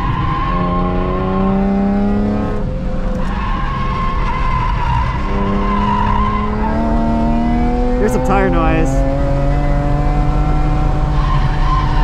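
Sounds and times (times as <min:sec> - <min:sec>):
tires squealing: 0:00.0 - 0:01.5, 0:02.8 - 0:12.0
car engine accelerating: 0:00.0 - 0:12.0.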